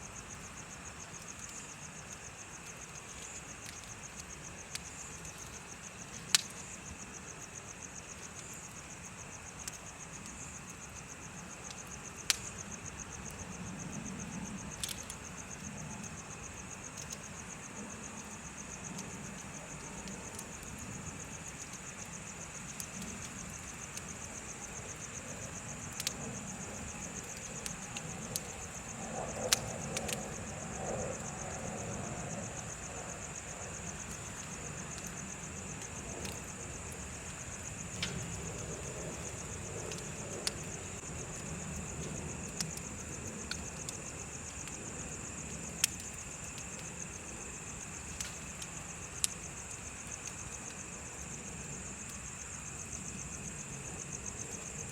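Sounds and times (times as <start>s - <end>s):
bonfire crackling and popping: 0.0s - 54.9s
insects trilling: 0.0s - 54.9s.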